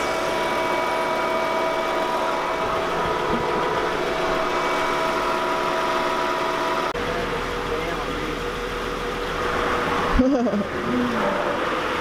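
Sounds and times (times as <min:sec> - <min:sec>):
car engine idling: 0:00.0 - 0:12.0
steady whining tones: 0:00.0 - 0:12.0.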